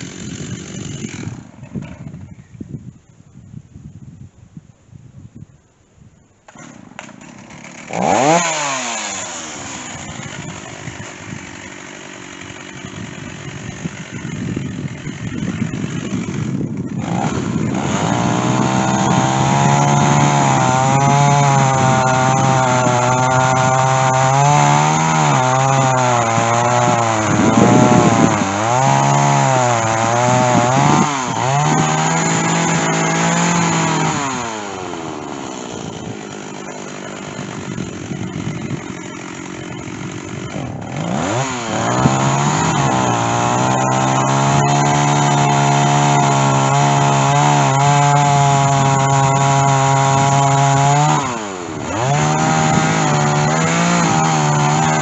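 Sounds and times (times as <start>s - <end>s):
chainsaw cutting wood: 0.0s - 2.4s, 6.5s - 55.0s.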